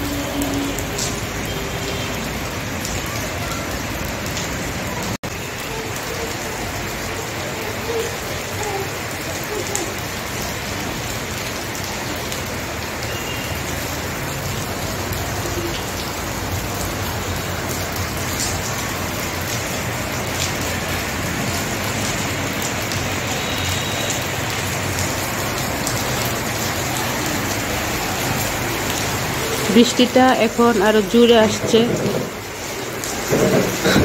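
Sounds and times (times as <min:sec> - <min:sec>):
rain on paving: 0:00.0 - 0:34.0
water drips and splashes: 0:00.0 - 0:34.0.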